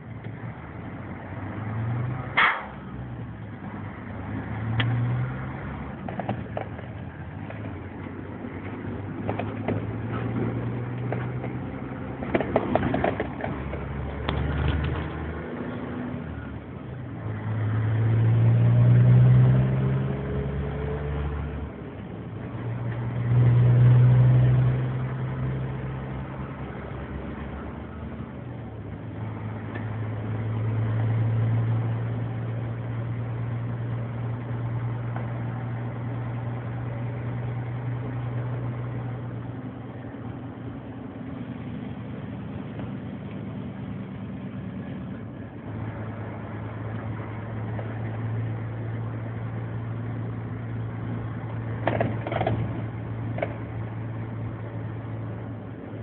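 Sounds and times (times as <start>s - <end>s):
diesel truck engine revving: 0.0s - 56.0s.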